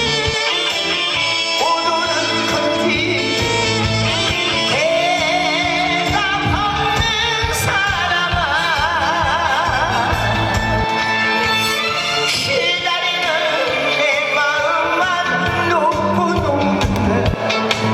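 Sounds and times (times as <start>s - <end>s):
backing band playing: 0.0s - 17.9s
person singing with vibrato: 0.0s - 17.9s.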